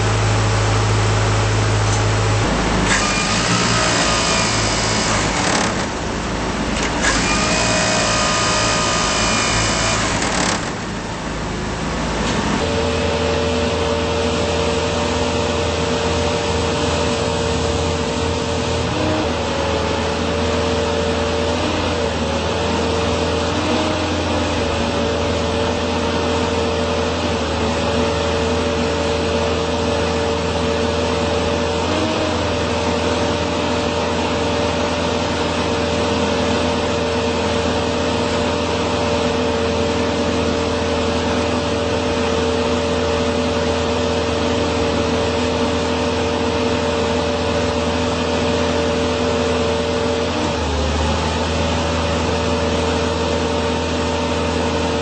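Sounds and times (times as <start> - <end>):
hydraulic pump whine: 0.0 - 55.0.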